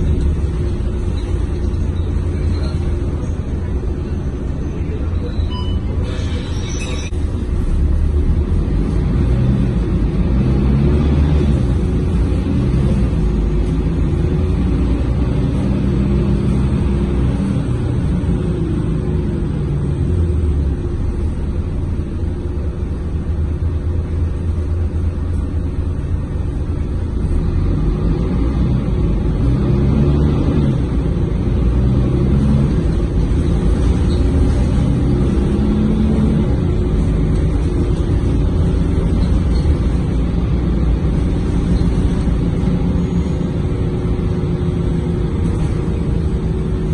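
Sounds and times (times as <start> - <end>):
bus engine and road rumble: 0.0 - 46.9.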